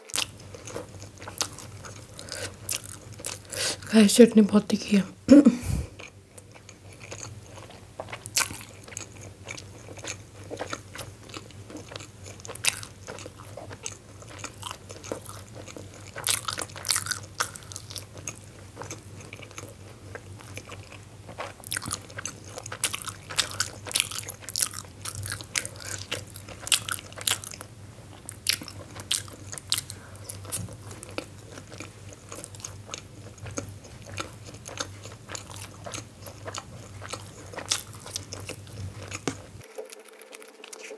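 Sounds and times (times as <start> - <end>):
person chewing dumplings: 0.0 - 3.9, 5.6 - 40.9.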